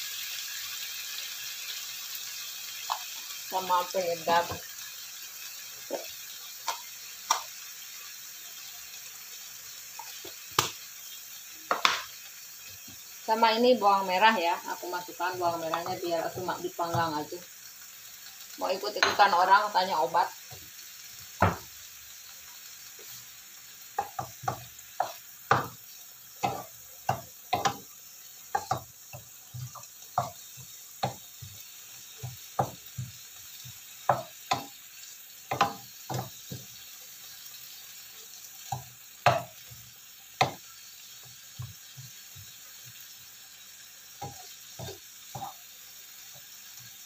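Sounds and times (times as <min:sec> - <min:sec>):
faint sizzle: 0:00.0 - 0:47.0.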